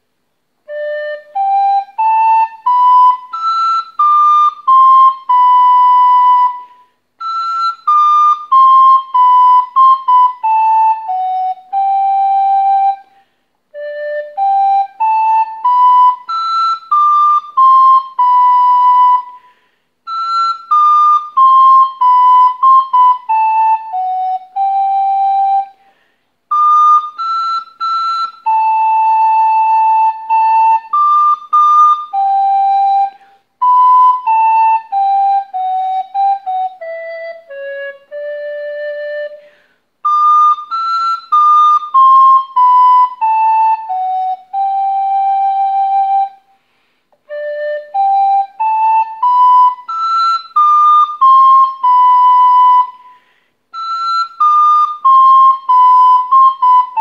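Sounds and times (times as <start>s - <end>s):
recorder playing slow hymn melody: 0.7s - 25.8s, 26.5s - 57.0s.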